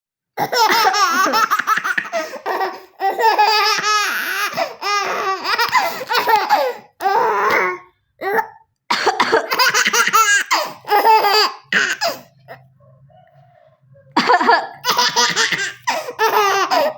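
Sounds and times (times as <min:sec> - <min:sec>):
baby belly laughing: 0:00.4 - 0:08.5, 0:09.2 - 0:12.6, 0:14.1 - 0:16.9.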